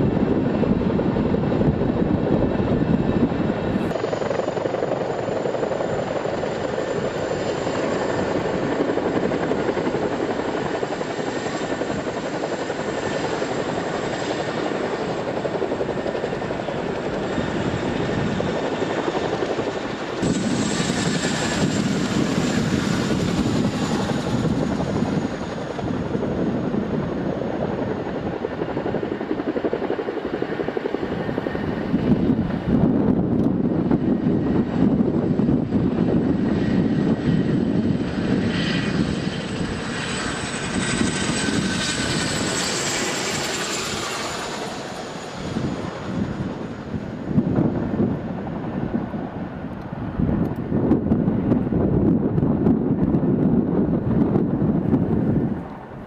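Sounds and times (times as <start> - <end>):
helicopter rotor and turbine: 0.0 - 56.0.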